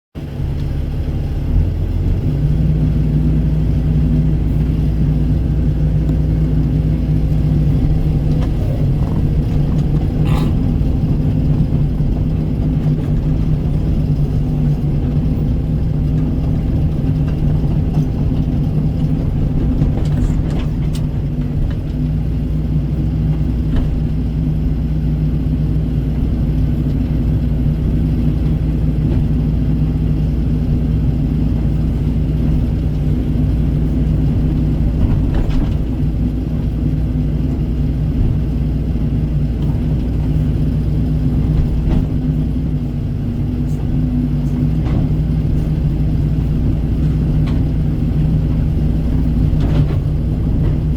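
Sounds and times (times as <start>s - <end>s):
excavator diesel engine running: 0.2s - 50.9s.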